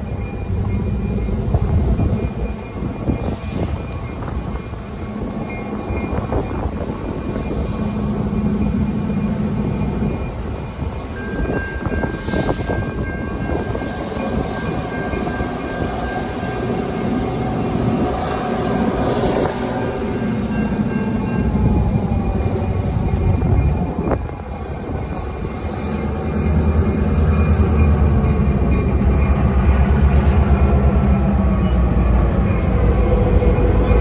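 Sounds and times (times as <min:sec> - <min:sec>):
crossing warning bell ringing: 0:00.0 - 0:34.0
diesel locomotive engine rumbling: 0:00.0 - 0:34.0.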